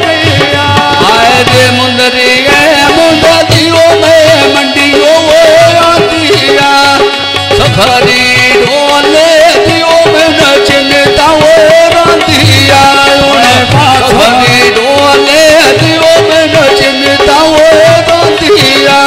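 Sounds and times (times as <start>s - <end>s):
hand drum beat: 0.0s - 19.0s
harmonium chords: 0.0s - 19.0s
man singing folk song: 0.0s - 19.0s
second man singing: 0.0s - 19.0s.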